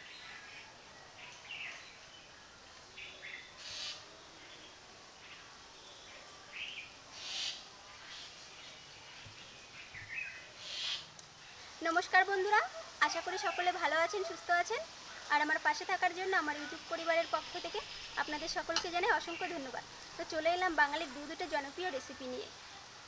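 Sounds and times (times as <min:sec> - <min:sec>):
birds chirping: 0:00.0 - 0:22.6
faint steady background: 0:00.0 - 0:23.0.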